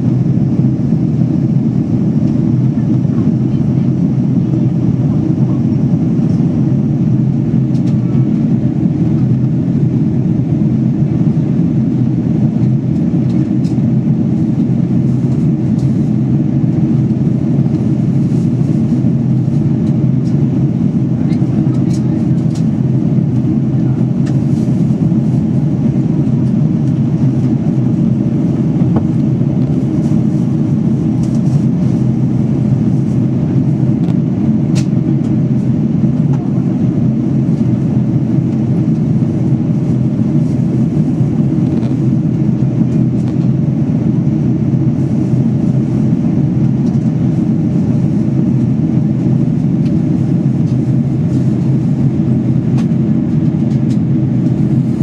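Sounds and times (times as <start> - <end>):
jet engine roar in cabin: 0.0 - 55.0.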